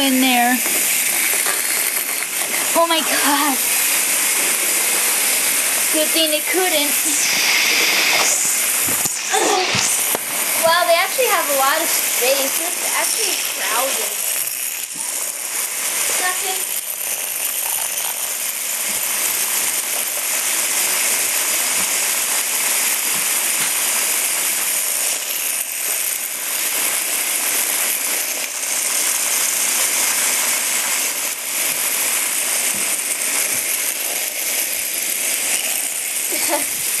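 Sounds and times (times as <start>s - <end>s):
toy robots buzzing and rattling: 0.0s - 37.0s.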